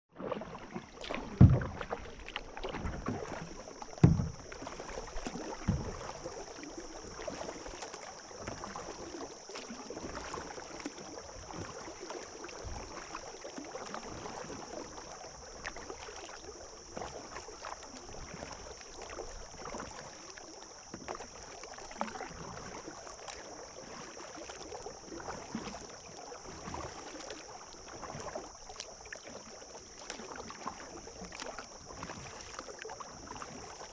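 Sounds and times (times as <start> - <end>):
water lapping against a kayak: 0.1 - 33.9.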